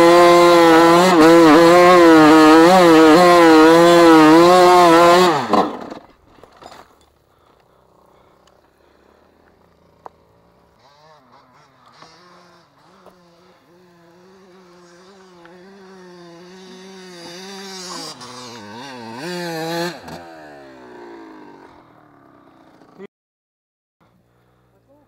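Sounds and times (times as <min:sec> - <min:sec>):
dirt bike engine revving: 0:00.0 - 0:06.1, 0:08.8 - 0:23.1.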